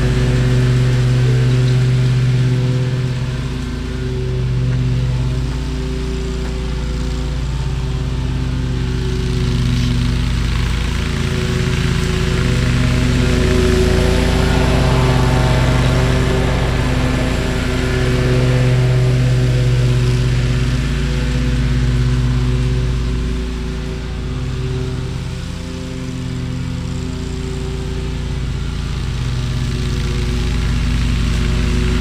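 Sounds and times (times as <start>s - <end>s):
lawn mower engine running: 0.0s - 32.0s.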